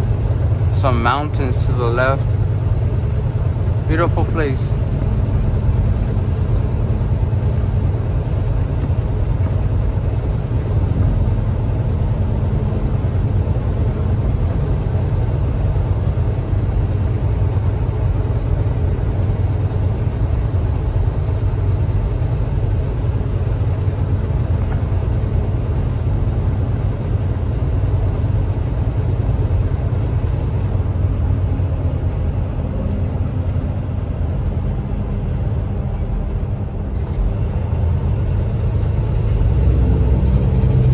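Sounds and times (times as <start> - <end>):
truck engine and road rumble: 0.0 - 40.9.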